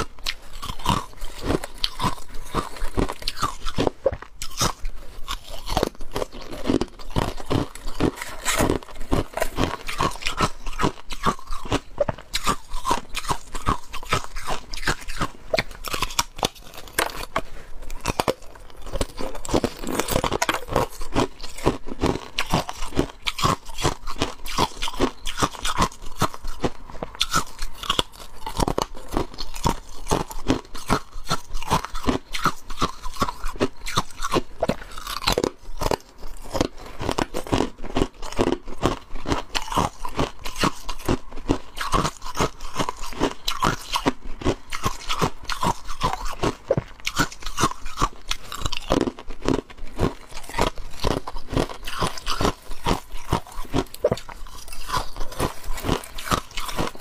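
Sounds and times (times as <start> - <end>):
ice being chewed crunching: 0.0 - 57.0.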